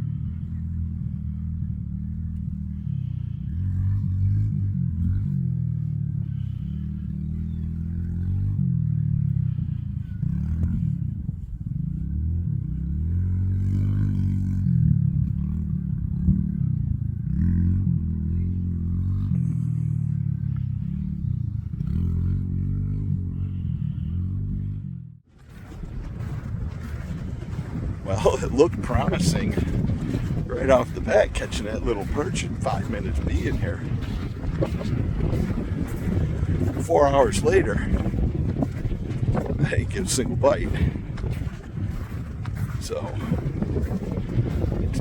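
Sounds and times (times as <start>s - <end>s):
engine revving up and down: 0.0s - 45.0s.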